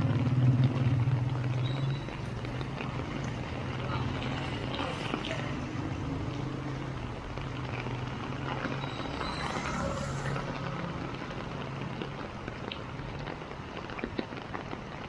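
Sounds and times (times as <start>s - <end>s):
vehicle engine humming: 0.0s - 13.7s
heavy rain falling: 0.0s - 15.0s
tyres hissing on wet road: 0.0s - 15.0s.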